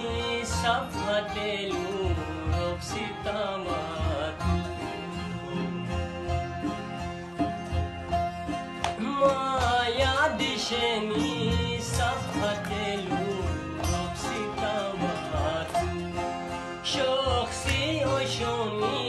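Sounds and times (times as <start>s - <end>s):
sitar melody with sliding notes: 0.0s - 19.0s.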